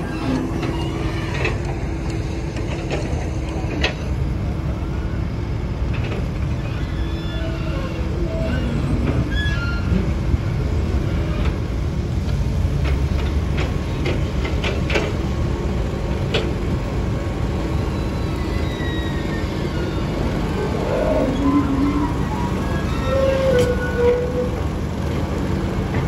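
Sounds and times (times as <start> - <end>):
road roller diesel rumble: 0.0 - 26.0.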